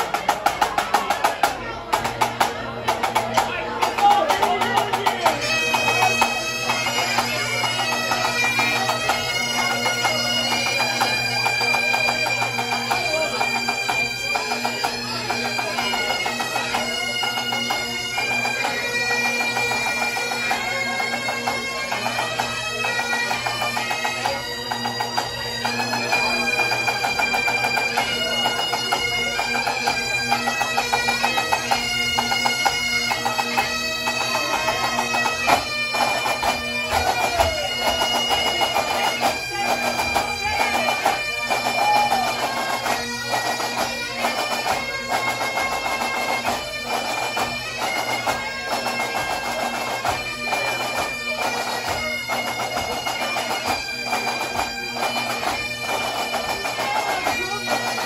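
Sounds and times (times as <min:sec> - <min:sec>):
bagpipe drones: 0:00.0 - 0:58.0
bagpipes playing a tune: 0:00.0 - 0:58.0.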